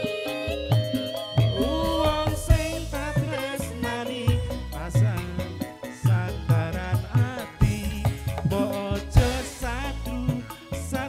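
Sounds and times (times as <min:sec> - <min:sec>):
gamelan music: 0:00.0 - 0:11.0.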